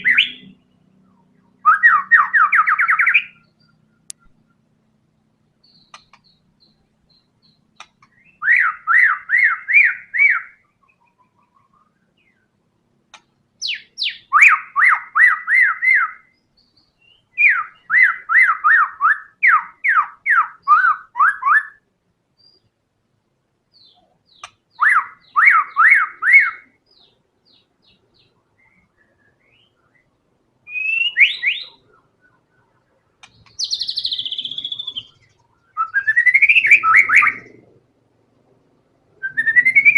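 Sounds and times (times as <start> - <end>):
bird singing fast repeated notes: 0.0 - 22.8, 23.7 - 37.8, 38.6 - 39.9.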